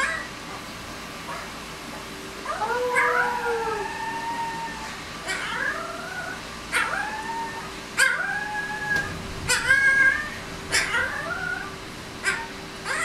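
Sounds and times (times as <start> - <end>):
puppy howling: 2.4 - 13.0.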